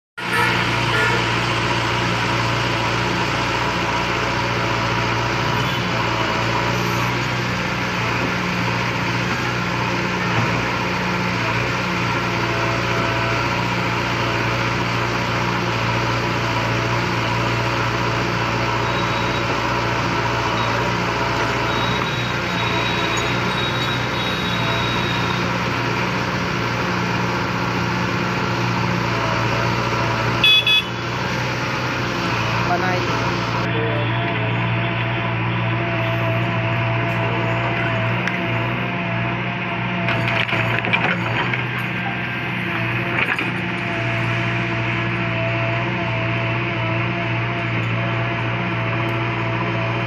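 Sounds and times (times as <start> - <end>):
diesel engine running steadily: 0.2 - 50.0.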